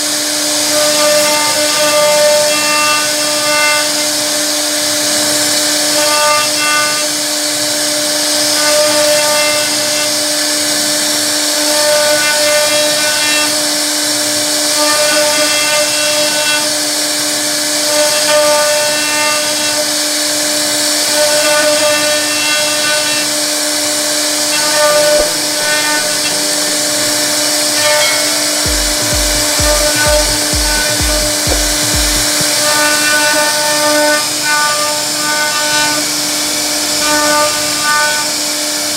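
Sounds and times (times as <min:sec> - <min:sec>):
router spindle whining: 0:00.0 - 0:35.4.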